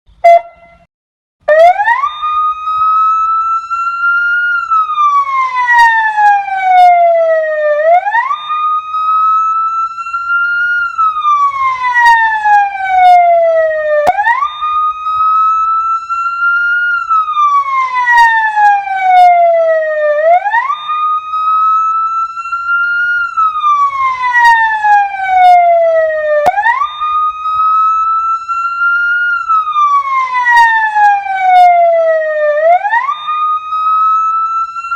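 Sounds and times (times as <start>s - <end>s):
ambulance siren wailing: 0.2s - 34.9s.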